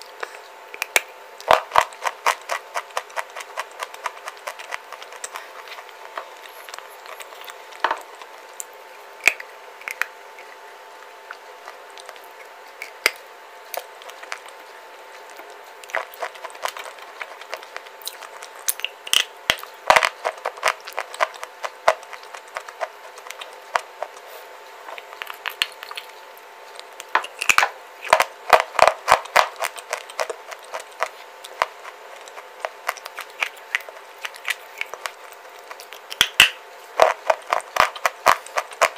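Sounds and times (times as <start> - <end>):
clay crunching being chewed: 0.0 - 38.9.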